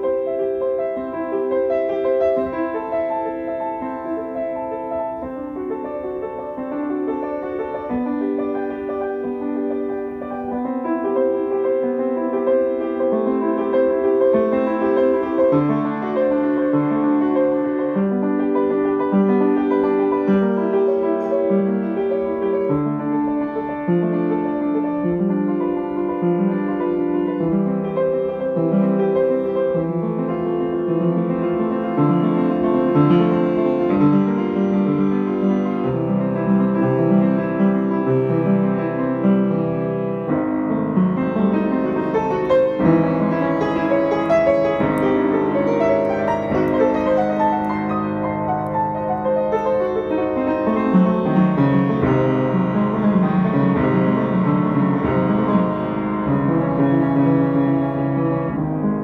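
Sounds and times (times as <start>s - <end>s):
piano playing classical piece: 0.0s - 59.0s.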